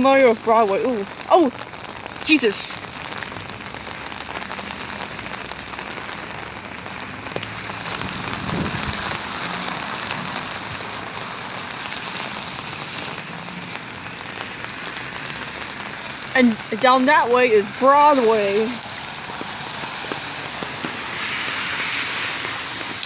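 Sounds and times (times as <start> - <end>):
heavy rain splashing: 0.0 - 23.0.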